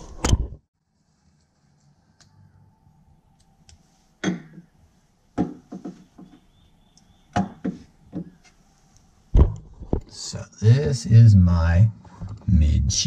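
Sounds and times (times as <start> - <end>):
faint steady hum: 0.8 - 13.0.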